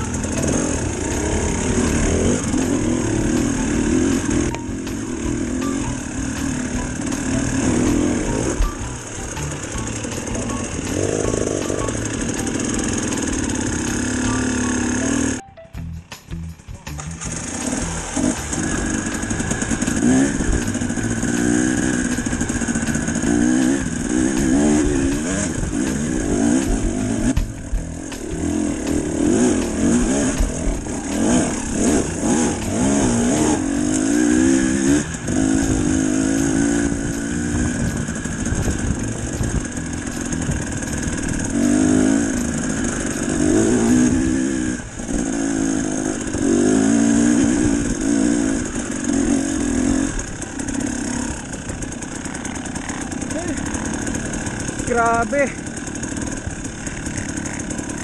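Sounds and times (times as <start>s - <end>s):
dirt bike engine revving: 0.0s - 15.4s, 16.1s - 58.0s.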